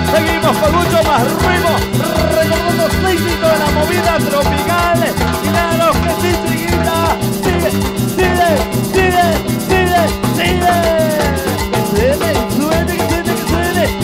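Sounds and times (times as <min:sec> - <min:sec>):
latin dance band playing: 0:00.0 - 0:14.0.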